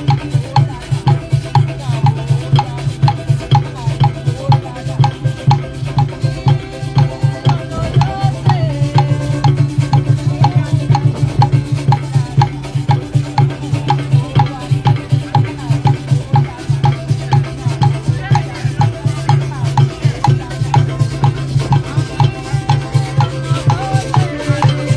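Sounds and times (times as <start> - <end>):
driving drum beat: 0.0 - 24.9
other percussion: 0.0 - 24.9
pitched instruments or voices: 0.0 - 24.9.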